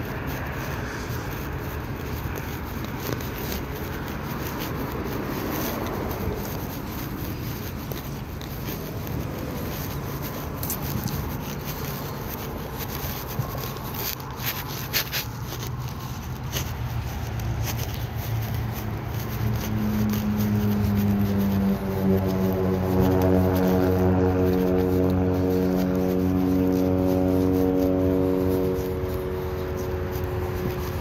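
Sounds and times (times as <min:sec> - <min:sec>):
engine drone: 0:00.0 - 0:31.0
footsteps on gritty concrete: 0:00.0 - 0:31.0
low outdoor rumble: 0:00.0 - 0:31.0
shoe scuffs: 0:00.0 - 0:31.0.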